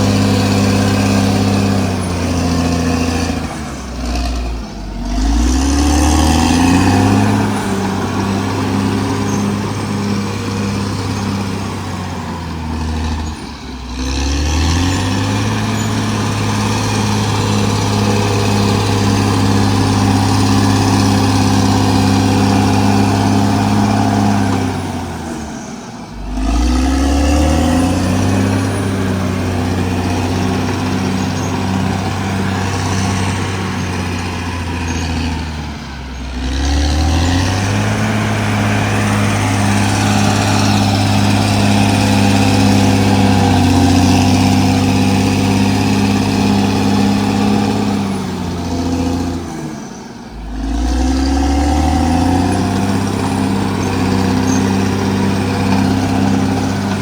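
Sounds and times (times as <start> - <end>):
bulldozer diesel engine running hard: 0.0 - 57.0.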